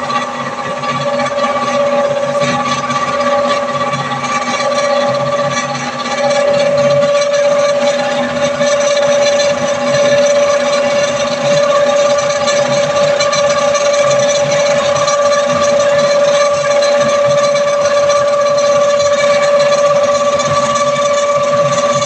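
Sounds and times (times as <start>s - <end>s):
plastic recycling machine whining: 0.0s - 22.0s.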